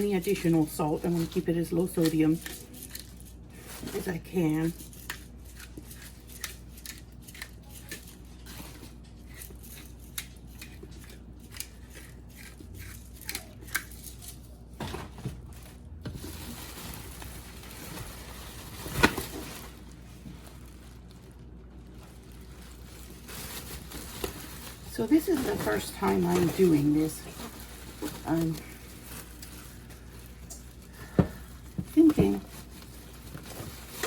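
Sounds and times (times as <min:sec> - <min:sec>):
plastic bag crinkling: 0:00.0 - 0:10.6, 0:11.4 - 0:34.0.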